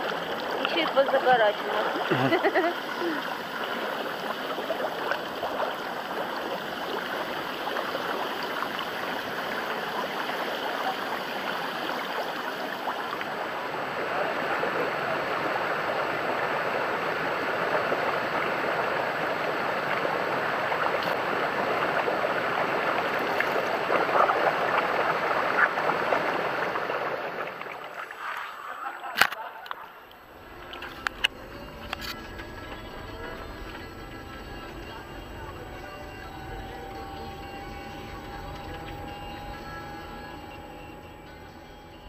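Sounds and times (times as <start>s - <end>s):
water bubbling and churning: 0.0s - 28.9s, 29.8s - 42.0s
water splashes: 0.0s - 42.0s.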